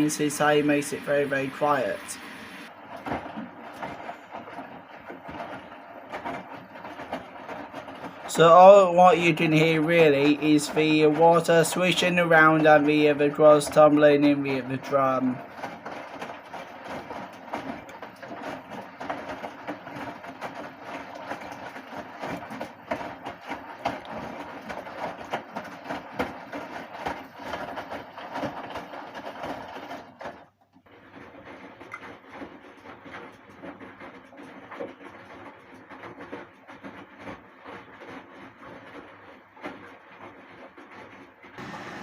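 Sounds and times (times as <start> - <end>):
washing machine water swishing: 0.0 - 42.0
rapid small clicks and knocks: 2.8 - 41.6.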